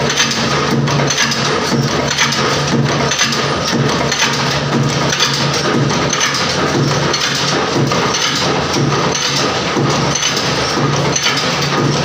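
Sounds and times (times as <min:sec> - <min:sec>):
machine clattering and knocking: 0:00.0 - 0:12.0.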